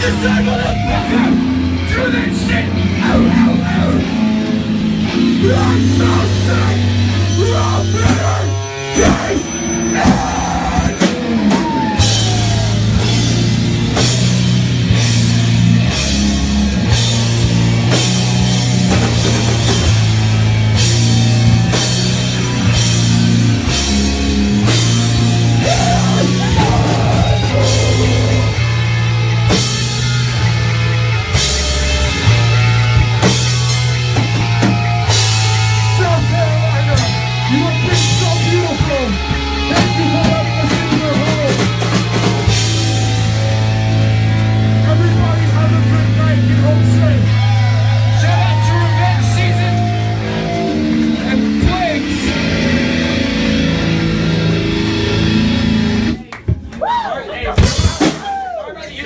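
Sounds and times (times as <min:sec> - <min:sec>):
distorted bass and guitar: 0:00.0 - 0:56.3
drum kit: 0:00.0 - 0:56.7, 0:57.4 - 0:58.6.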